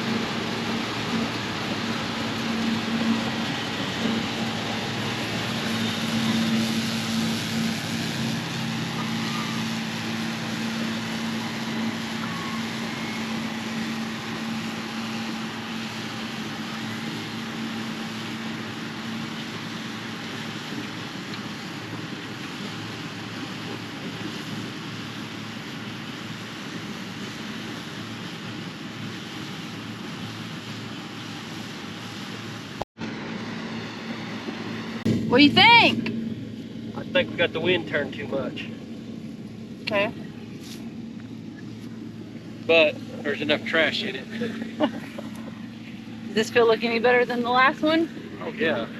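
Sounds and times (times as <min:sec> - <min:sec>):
combine harvester running: 0:00.0 - 0:48.9
low engine hum: 0:00.0 - 0:48.9.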